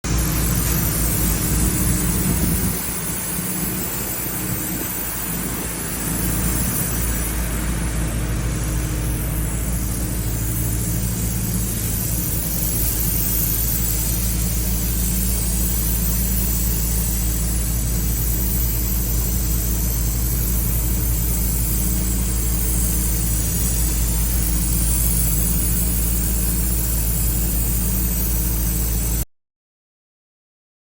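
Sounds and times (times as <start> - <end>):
engine drone: 0.0 - 29.2
spray hiss: 0.1 - 29.2.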